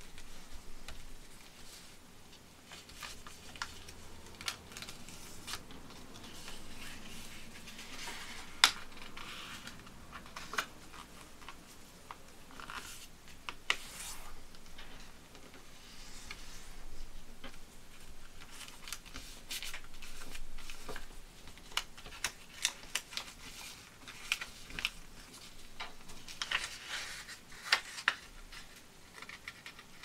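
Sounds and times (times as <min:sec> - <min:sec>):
paper folding and crinkling: 0:00.0 - 0:30.0
paper crackles: 0:02.6 - 0:15.1, 0:17.4 - 0:30.0.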